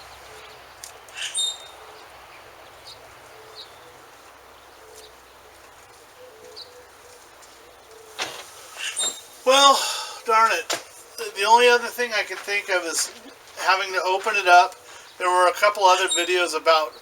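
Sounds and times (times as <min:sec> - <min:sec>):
faint steady hiss: 0:00.0 - 0:16.9
birds chirping: 0:00.0 - 0:17.0.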